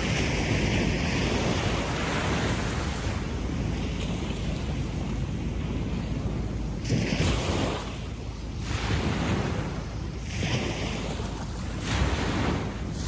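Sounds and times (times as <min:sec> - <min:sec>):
waves washing on beach: 0:00.0 - 0:13.0.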